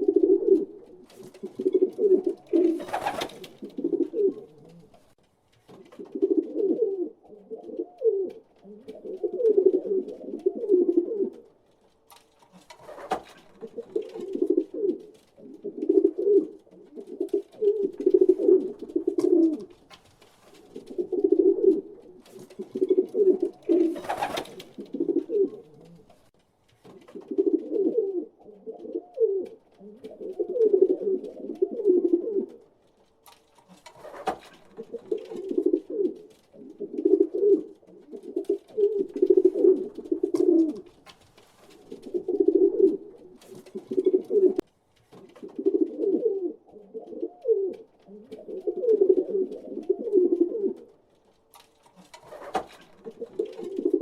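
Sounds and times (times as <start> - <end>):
pigeons cooing: 0.0 - 5.2, 5.9 - 11.5, 12.8 - 19.8, 20.6 - 26.2, 27.1 - 32.7, 33.9 - 41.0, 41.7 - 44.6, 45.4 - 50.9, 52.0 - 54.0.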